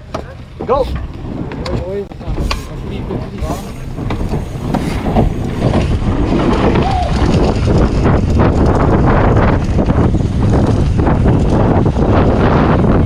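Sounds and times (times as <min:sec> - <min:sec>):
bike knocking and rattling: 0:00.0 - 0:13.0
tyres rolling on dirt: 0:00.0 - 0:13.0
wind rushing over microphone: 0:00.0 - 0:13.0.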